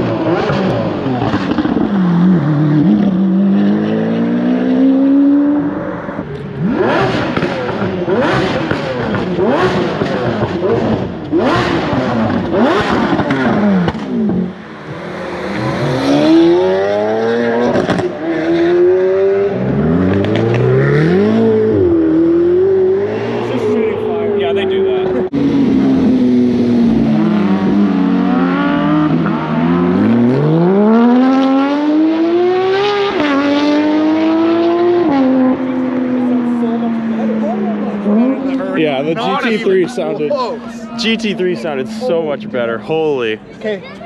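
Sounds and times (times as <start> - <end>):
supercar engines revving: 0.0 - 44.0.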